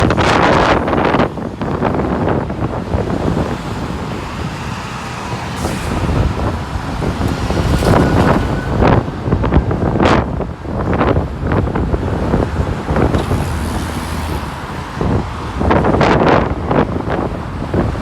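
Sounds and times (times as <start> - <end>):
diesel bus running: 0.0 - 18.0
wind buffeting microphone: 0.0 - 18.0.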